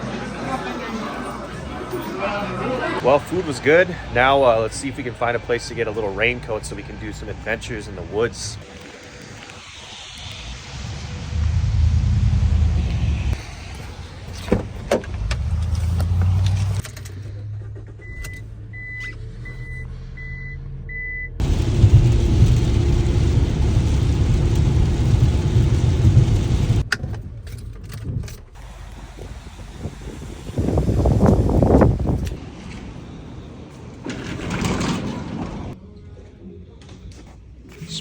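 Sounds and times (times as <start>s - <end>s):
engine and road rumble: 2.9s - 35.8s.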